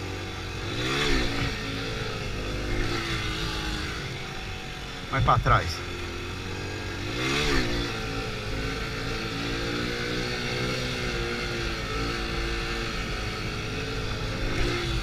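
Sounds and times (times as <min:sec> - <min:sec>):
small motorcycle engine revving: 0:00.0 - 0:15.0.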